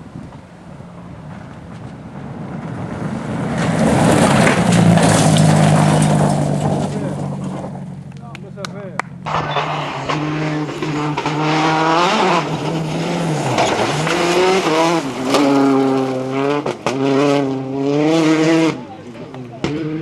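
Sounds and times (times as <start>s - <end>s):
rally car engine revving: 1.2s - 20.0s.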